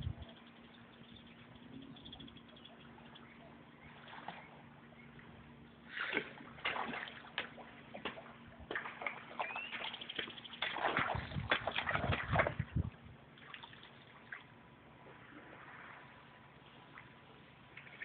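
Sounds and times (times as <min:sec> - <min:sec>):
faint steady hum: 0:00.0 - 0:18.0
water splashing and sloshing: 0:02.9 - 0:18.0.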